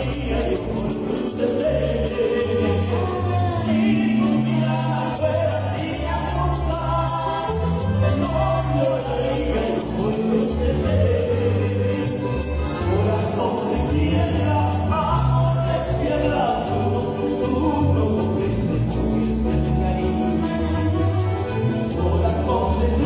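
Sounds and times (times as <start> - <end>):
electric bass: 0.0 - 23.0
person singing: 0.0 - 23.0
piano accordion: 0.0 - 23.0.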